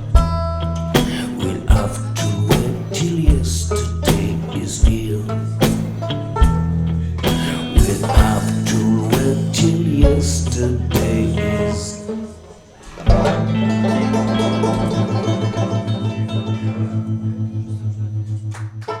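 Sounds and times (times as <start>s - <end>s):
folk-blues guitar chords: 0.0s - 19.0s.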